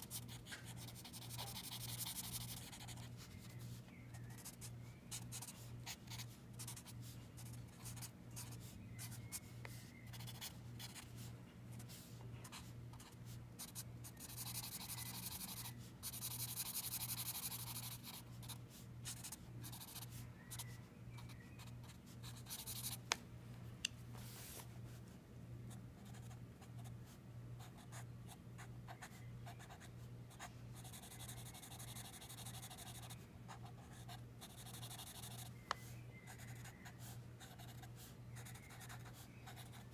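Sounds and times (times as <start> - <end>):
marker scratching on paper: 0.0 - 20.7, 21.8 - 23.0, 28.9 - 35.5, 36.3 - 39.9.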